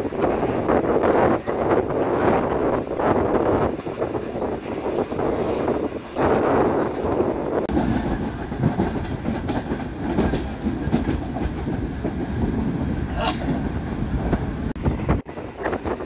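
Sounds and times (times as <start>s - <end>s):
train clatter: 0.0s - 16.0s
train wheels rumbling on rails: 0.0s - 16.0s.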